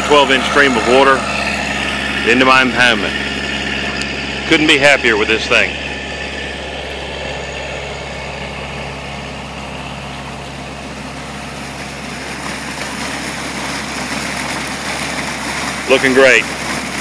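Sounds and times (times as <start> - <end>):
tractor engine humming: 0.0 - 17.0
water pump running: 0.0 - 17.0
water rushing out of pipe: 0.0 - 17.0.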